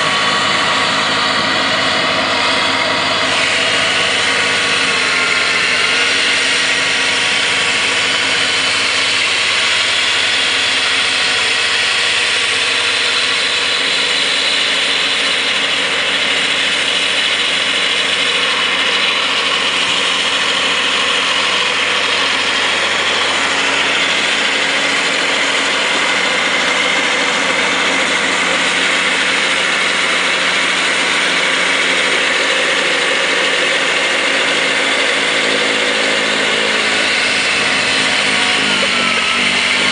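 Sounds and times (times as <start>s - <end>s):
snowblower auger whirring: 0.0s - 39.9s
tractor diesel engine running: 0.0s - 39.9s.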